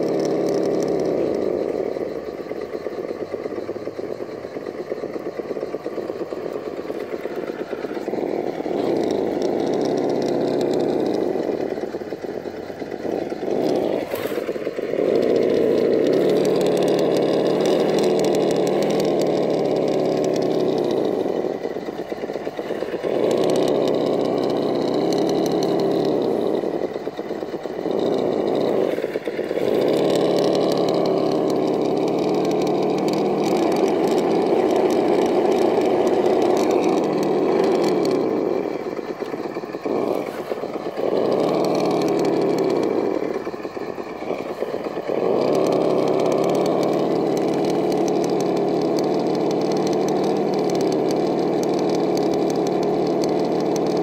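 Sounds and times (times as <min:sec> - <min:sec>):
rc car electric motor whining: 0:00.0 - 0:54.0.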